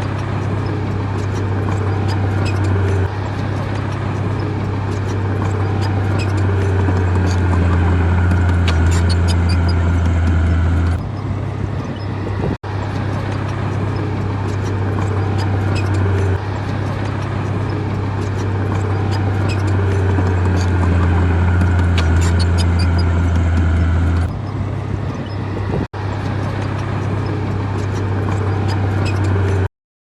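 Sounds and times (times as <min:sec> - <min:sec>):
diesel engine droning: 0:00.0 - 0:29.7.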